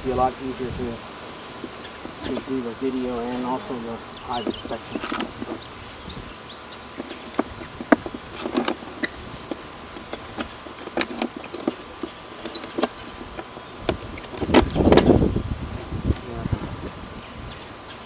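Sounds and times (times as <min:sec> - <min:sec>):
beehive parts clicking and knocking: 0:00.0 - 0:16.3.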